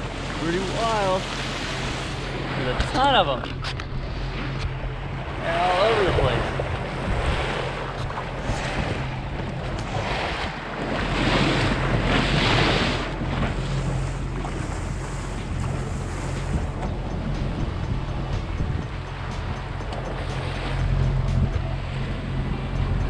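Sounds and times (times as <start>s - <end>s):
bow wave splashing along hull: 0.0s - 23.0s
outboard engines humming: 0.0s - 23.0s
wind buffeting microphone: 0.0s - 23.0s.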